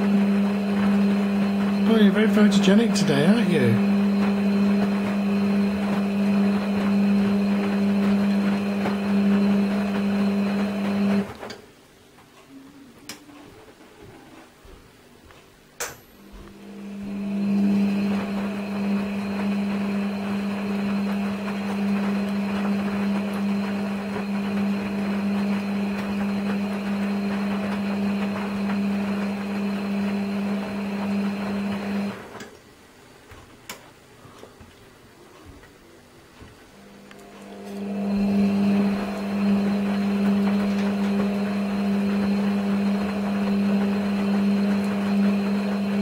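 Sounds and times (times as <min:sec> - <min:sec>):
washing machine drum motor hum: 0:00.0 - 0:12.2, 0:13.4 - 0:46.0.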